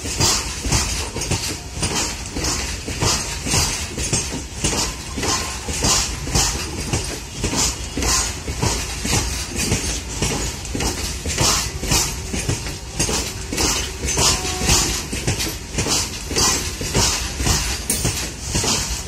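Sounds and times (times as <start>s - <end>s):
freight train wheels clickety-clack: 0.0s - 19.0s
low train rumble: 0.0s - 19.0s.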